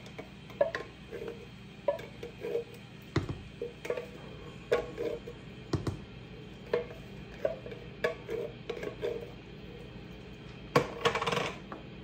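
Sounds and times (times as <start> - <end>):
wooden spoon stirring sauce: 0.0 - 10.1
steady low hum: 0.0 - 12.0.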